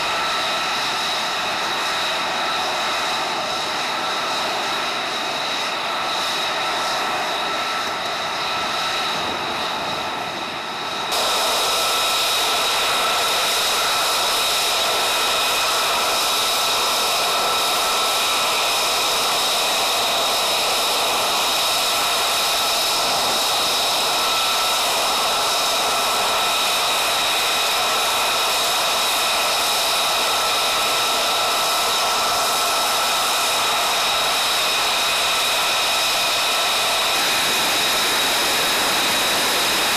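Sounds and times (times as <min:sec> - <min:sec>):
jet engine idling roar: 0:00.0 - 0:39.9.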